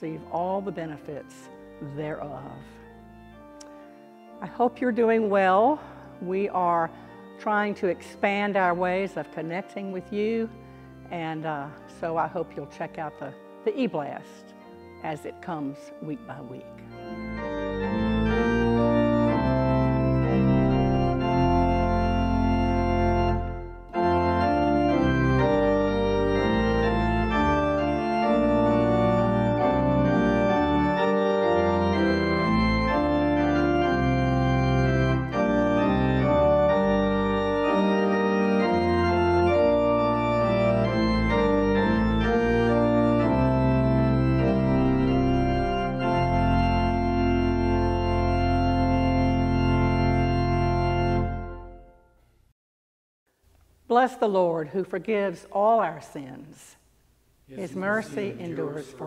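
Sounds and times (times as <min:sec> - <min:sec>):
church organ chords: 0:00.0 - 0:52.4, 0:57.5 - 0:59.0.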